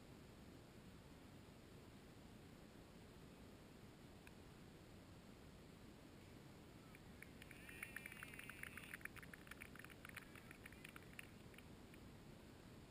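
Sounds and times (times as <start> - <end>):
faint steady hiss: 0.0 - 12.9.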